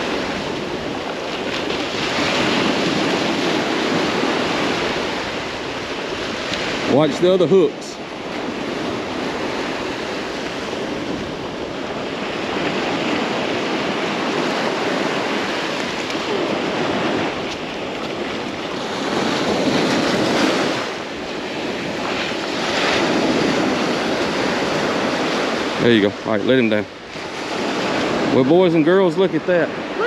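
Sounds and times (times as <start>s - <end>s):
ocean surf washing: 0.0s - 30.0s.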